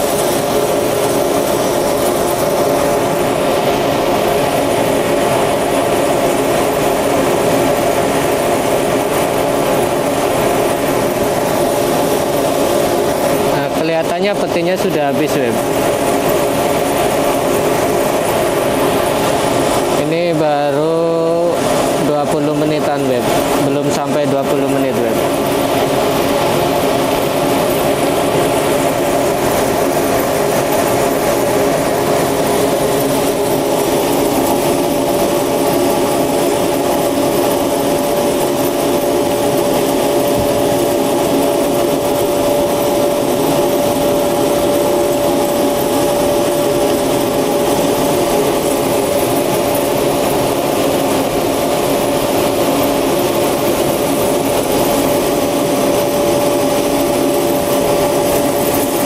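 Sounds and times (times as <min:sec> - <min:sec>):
machinery drone: 0:00.0 - 0:59.0
steady whining tone: 0:00.0 - 0:59.0.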